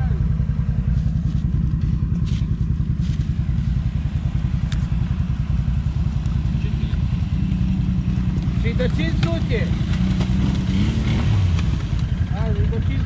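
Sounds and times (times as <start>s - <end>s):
atv engine idling: 0.0s - 13.0s.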